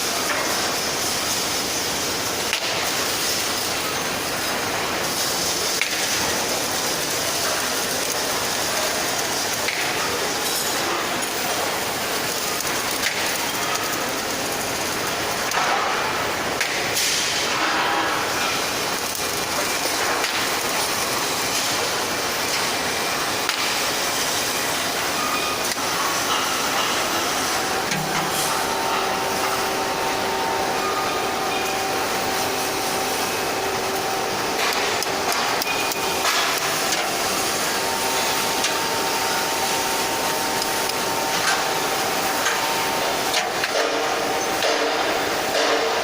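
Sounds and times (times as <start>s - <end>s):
loud hissing machine: 0.0s - 46.0s.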